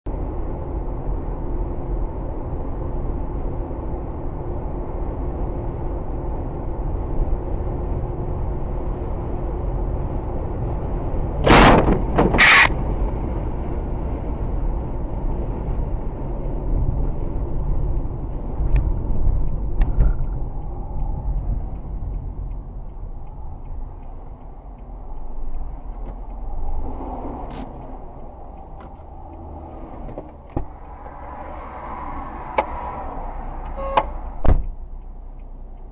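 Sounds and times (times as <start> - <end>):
car road and engine rumble: 0.0 - 35.9.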